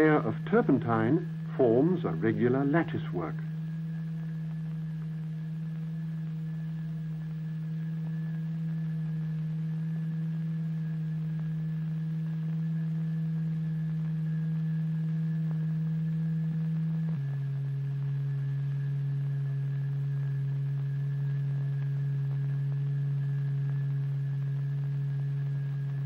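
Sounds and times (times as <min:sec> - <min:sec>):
low pure tone hum: 0:00.0 - 0:26.0.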